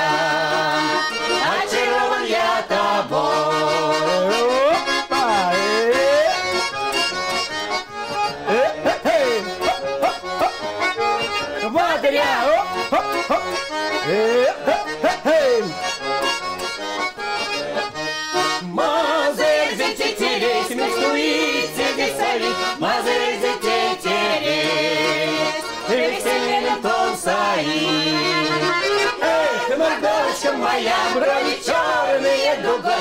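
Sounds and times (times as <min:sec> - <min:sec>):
accordion playing folk tune: 0:00.0 - 0:33.0.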